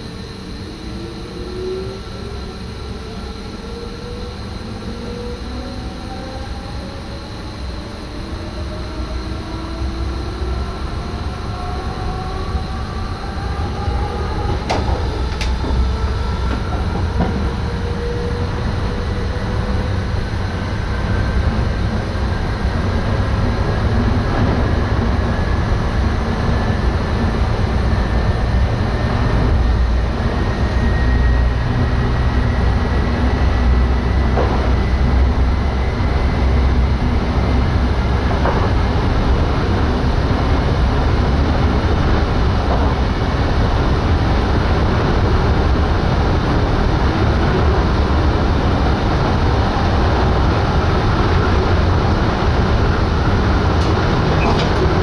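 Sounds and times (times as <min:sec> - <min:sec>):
electric train traction whine: 0:00.0 - 0:55.0
wheels rumbling on rails: 0:07.8 - 0:55.0.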